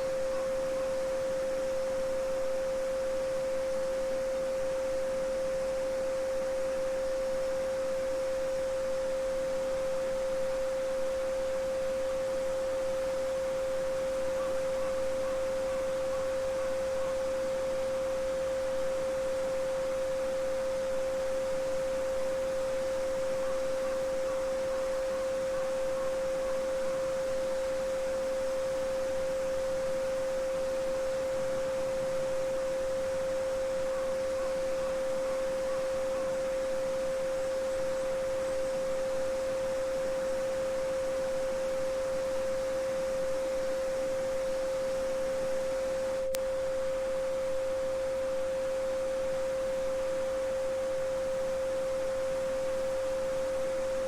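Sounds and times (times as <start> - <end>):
pure sine tone: 0.0 - 54.0.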